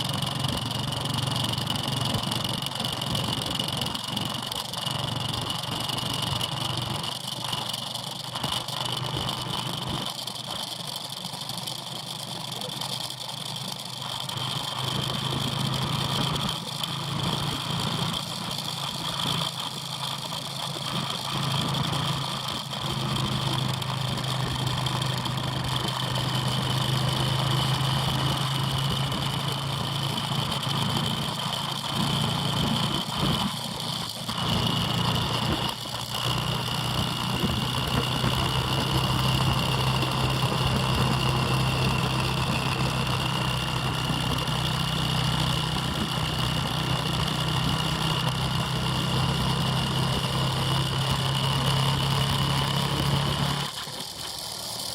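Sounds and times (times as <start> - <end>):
motorbike engine running steadily: 0.0 - 54.9.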